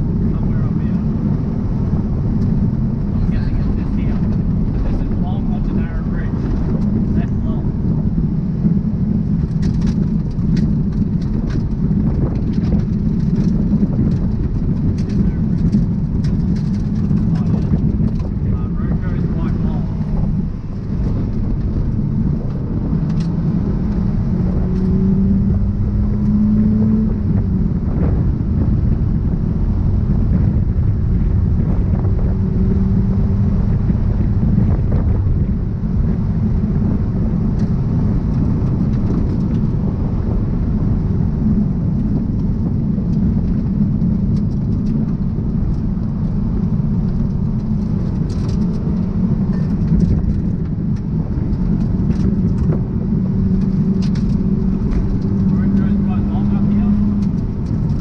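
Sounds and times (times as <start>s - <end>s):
car engine running hard: 0.0s - 58.0s
road and wind noise: 0.0s - 58.0s.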